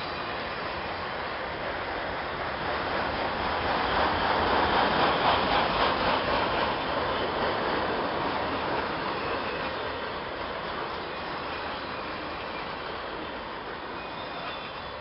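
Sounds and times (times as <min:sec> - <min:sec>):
wheels rushing on rail: 0:00.0 - 0:15.0.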